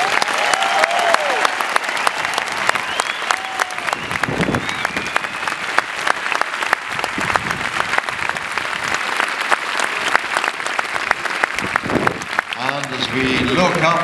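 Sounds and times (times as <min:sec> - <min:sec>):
audience applause: 0:00.0 - 0:14.0.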